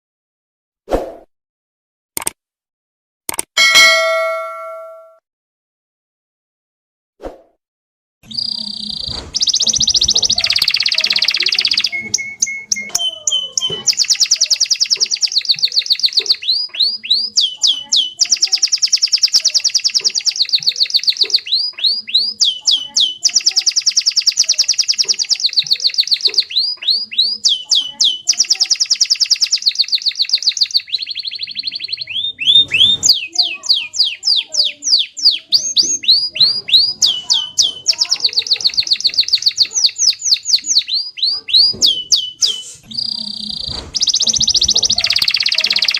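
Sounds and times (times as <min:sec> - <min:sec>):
canary singing trills: 0:08.2 - 0:45.9.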